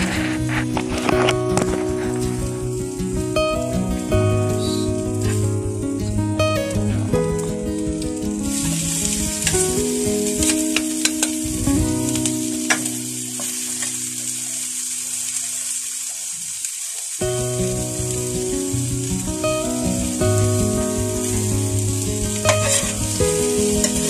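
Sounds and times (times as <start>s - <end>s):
chicken sizzling in hot oil: 0.0s - 6.2s, 7.7s - 24.0s.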